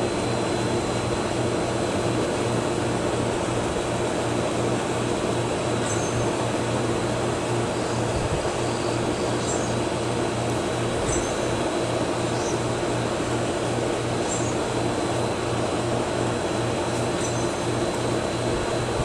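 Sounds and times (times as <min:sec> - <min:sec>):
throbbing mechanical hum: 0:00.0 - 0:19.0.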